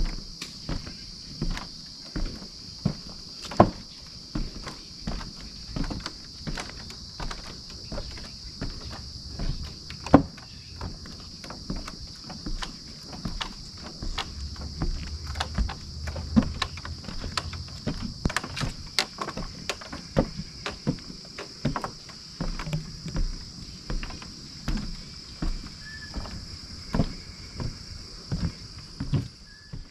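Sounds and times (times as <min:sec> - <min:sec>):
boards creaking: 0:00.0 - 0:29.9
footsteps on wooden planks: 0:00.0 - 0:29.9
insects buzzing: 0:00.0 - 0:29.9.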